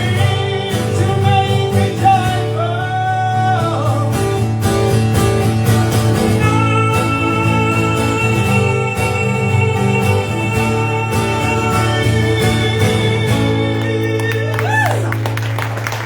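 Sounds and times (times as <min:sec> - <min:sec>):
guitar strumming: 0:00.0 - 0:15.8.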